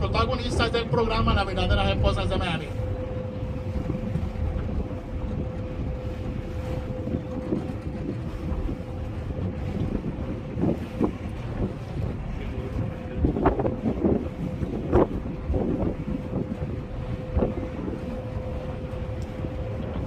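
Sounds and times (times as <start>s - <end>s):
boat engine rumble: 0.0s - 20.0s
wind buffeting microphone: 0.0s - 20.0s.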